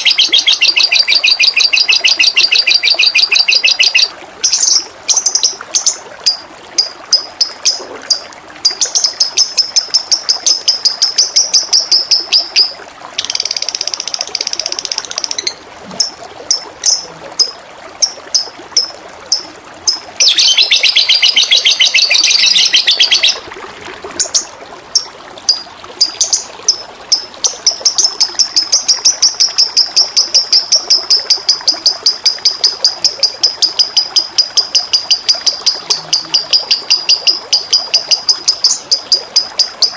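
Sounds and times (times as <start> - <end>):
songbird chirps and trills: 0.0 - 23.4, 24.2 - 39.9
running water: 0.0 - 39.9.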